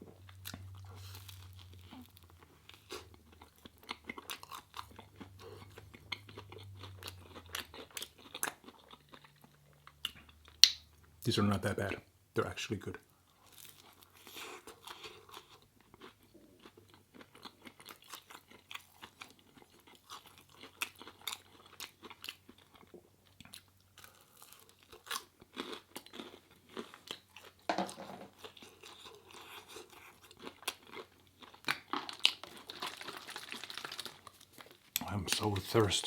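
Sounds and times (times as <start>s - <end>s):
chewing and crunching food: 0.1s - 11.2s, 13.0s - 36.0s.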